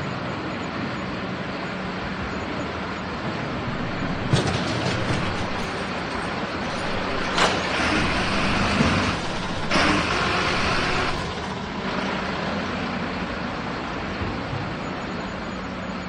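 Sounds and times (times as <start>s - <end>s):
garbage truck engine running: 2.8s - 16.0s.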